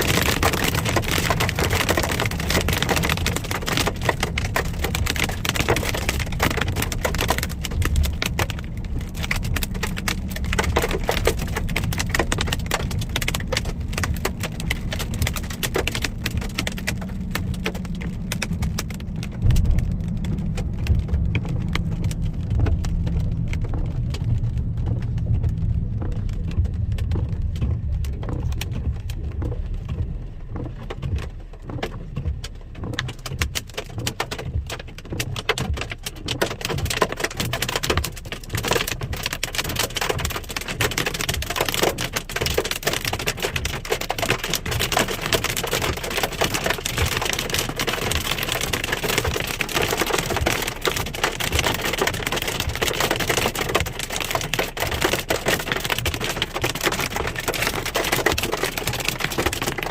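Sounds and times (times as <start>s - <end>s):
hail striking a car: 0.0s - 59.9s.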